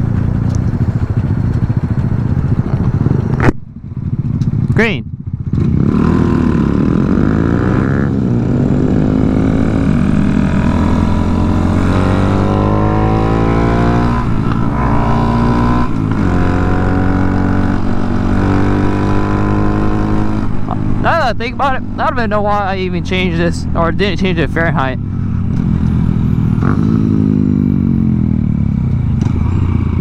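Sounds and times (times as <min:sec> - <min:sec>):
motorcycle engines accelerating: 0:00.0 - 0:30.0.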